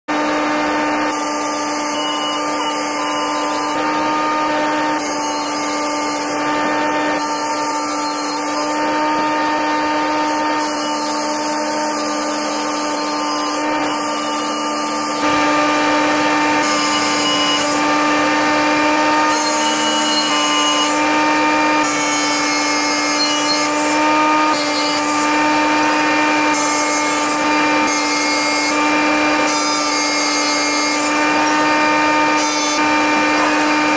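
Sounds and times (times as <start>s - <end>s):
drill grinding into stone: 0.1s - 33.9s
electric drill motor whine: 0.1s - 33.9s.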